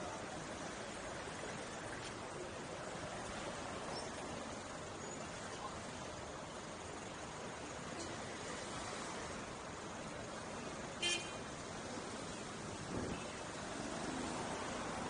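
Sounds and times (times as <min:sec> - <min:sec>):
wind and tyre noise: 0:00.0 - 0:15.0.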